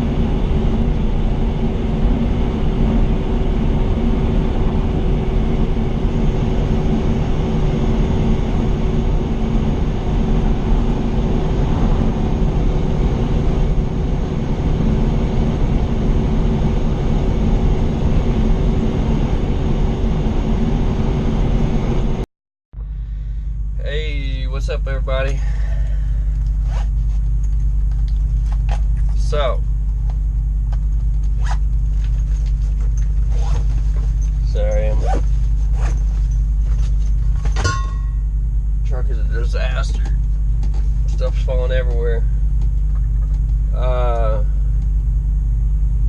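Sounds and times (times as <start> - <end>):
truck engine drone in cab: 0.0 - 22.2, 22.8 - 46.0.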